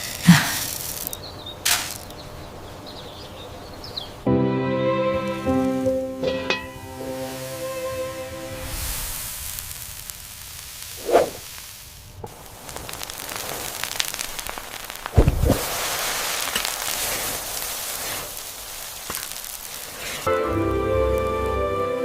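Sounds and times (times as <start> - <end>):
hissing crackling noise: 0.0 - 4.3, 5.2 - 22.0.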